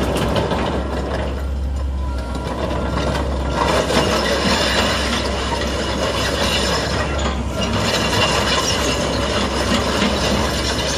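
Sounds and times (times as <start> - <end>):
excavator engine running: 0.0 - 10.9
hydraulics working: 0.0 - 10.9.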